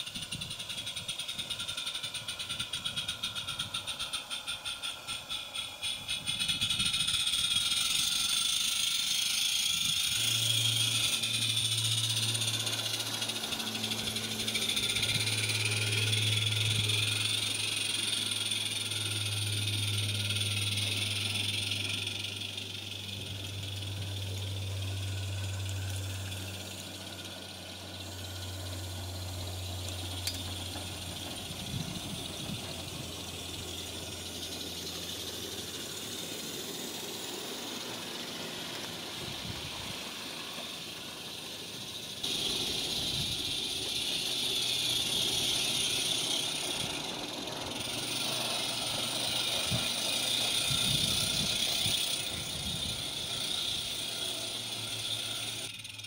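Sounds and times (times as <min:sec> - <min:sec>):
steam hissing: 0:00.0 - 0:56.0
wheels rattling on track: 0:00.0 - 0:56.0.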